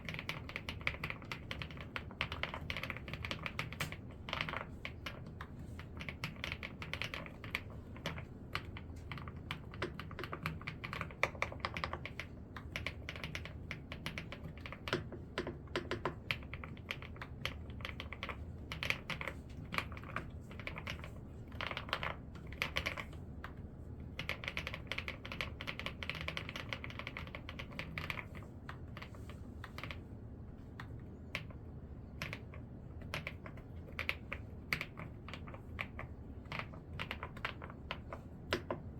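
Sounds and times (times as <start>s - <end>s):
mechanical keyboard typing: 0.0s - 30.0s, 30.8s - 38.9s.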